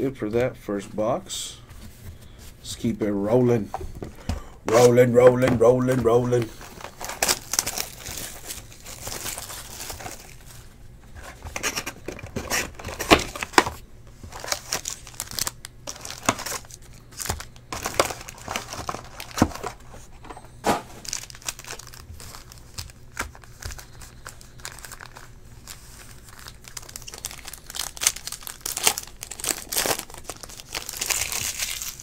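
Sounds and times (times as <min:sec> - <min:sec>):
foil wrappers crinkling and tearing: 0:04.7 - 0:20.4, 0:21.0 - 0:32.0.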